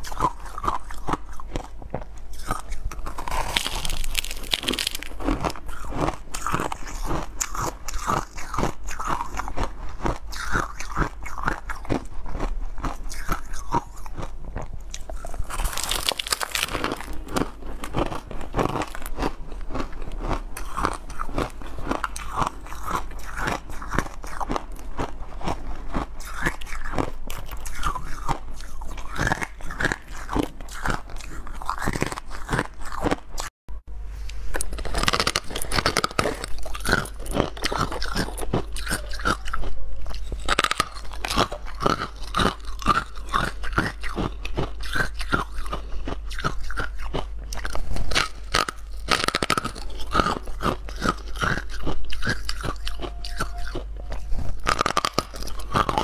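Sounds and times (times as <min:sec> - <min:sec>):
ice being chewed: 0:00.0 - 0:33.5, 0:34.3 - 0:56.0.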